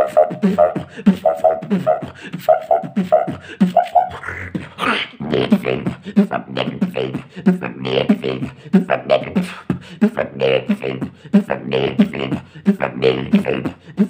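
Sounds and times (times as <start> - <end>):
man beatboxing: 0.0 - 14.0.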